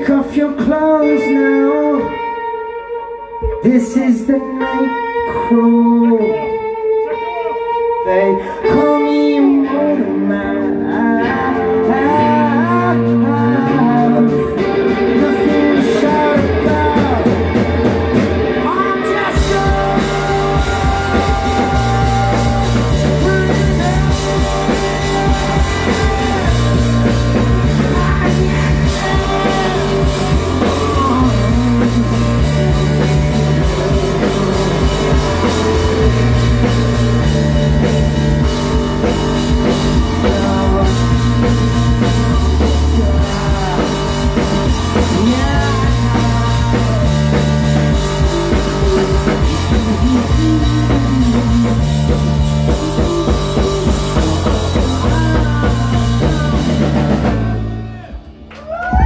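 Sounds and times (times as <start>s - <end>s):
bass line: 0.0s - 59.0s
rock band playing loudly: 0.0s - 59.0s
drum kit: 8.7s - 59.0s.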